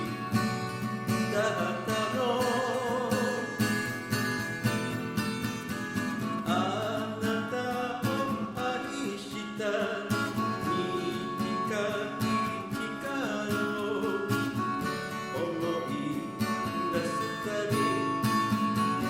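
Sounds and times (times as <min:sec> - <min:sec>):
person singing: 0:00.0 - 0:03.9, 0:06.4 - 0:19.0
acoustic guitar: 0:00.0 - 0:19.0.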